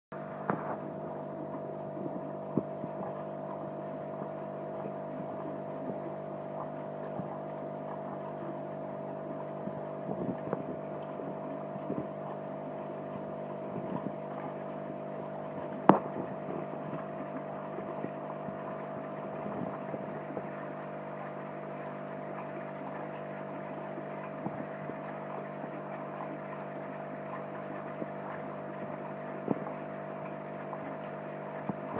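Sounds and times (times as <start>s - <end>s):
steady mechanical hum: 0.1s - 31.9s.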